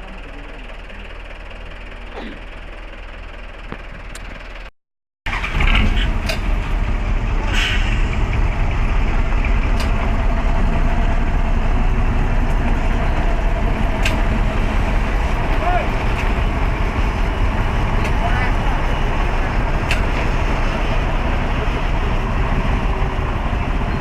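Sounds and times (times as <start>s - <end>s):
truck diesel engine running: 0.0s - 4.7s, 5.3s - 24.0s.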